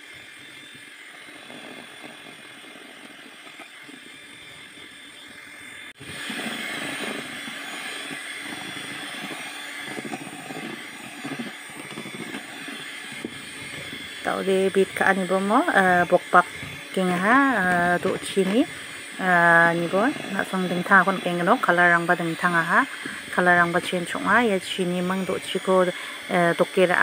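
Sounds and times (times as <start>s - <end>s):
electric hand mixer whirring: 0.0s - 27.0s.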